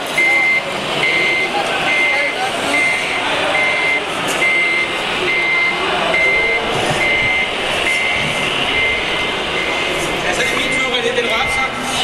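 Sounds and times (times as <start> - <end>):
noisy background: 0.0 - 12.0
reversing alarm beeping: 0.0 - 12.0.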